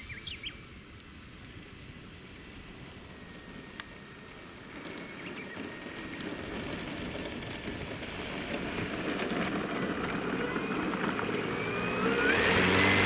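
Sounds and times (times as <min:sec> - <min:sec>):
model airplane motor humming: 0:00.1 - 0:13.0.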